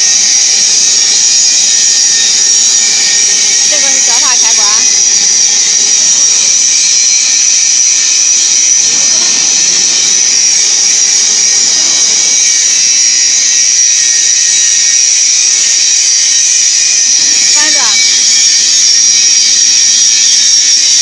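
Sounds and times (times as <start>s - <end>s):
high-pitched machine whine: 0.0s - 21.0s
hiss: 0.0s - 21.0s.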